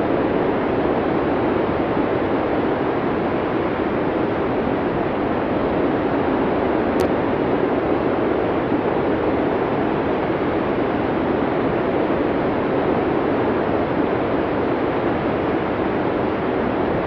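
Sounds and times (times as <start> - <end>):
blizzard wind: 0.0 - 17.0.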